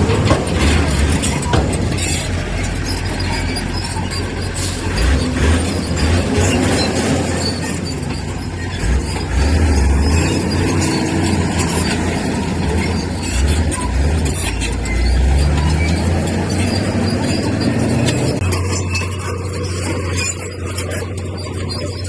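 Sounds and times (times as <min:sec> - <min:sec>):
bulldozer diesel engine rumble: 0:00.0 - 0:22.0
metallic track squeal and clatter: 0:00.0 - 0:22.0.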